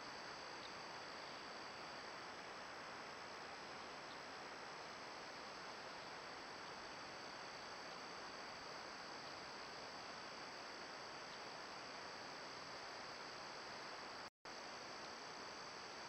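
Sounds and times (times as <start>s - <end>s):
faint microphone hiss: 0.0s - 16.0s
high insect drone: 0.0s - 16.0s.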